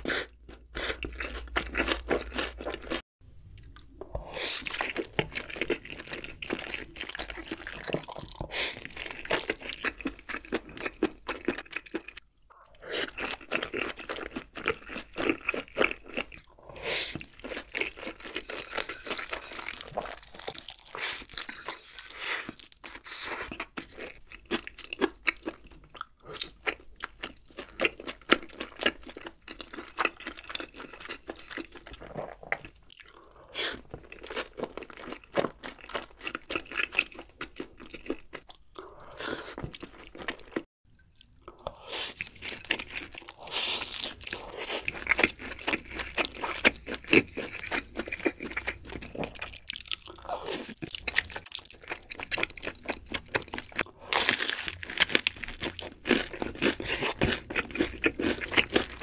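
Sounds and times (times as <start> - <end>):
crunching and chewing food: 0.0 - 59.0.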